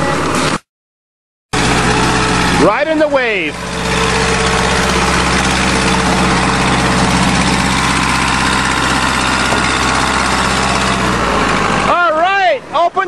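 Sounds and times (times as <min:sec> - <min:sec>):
backhoe engine running: 0:00.0 - 0:00.6, 0:01.5 - 0:13.0.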